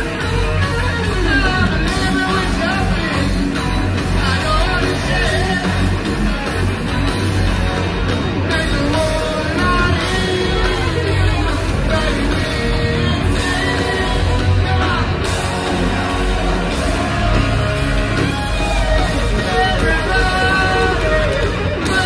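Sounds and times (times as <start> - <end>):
heavy metal band playing: 0.0 - 22.0
amplified lead vocal: 0.4 - 6.4, 8.2 - 22.0.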